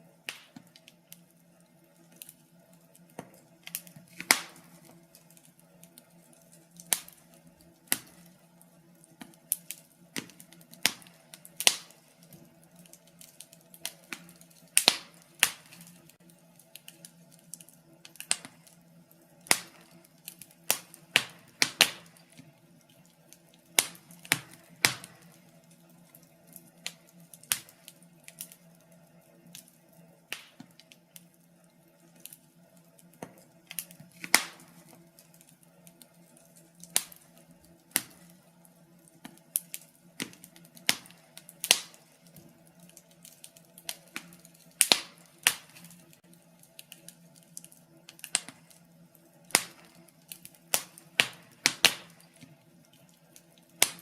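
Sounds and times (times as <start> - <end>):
faint steady hum: 0.0 - 54.0
wood fire crackling: 0.0 - 54.0.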